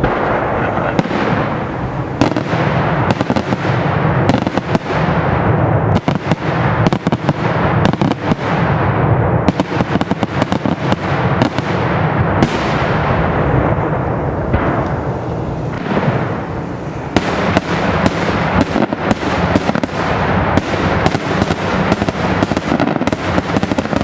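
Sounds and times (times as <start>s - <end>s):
fireworks bursts and bangs: 0.0s - 24.0s.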